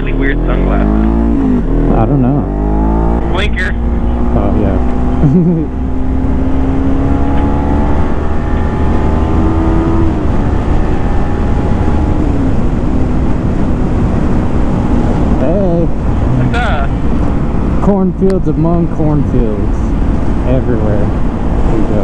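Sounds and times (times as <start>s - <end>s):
wind rumble on microphone: 1.0s - 22.0s.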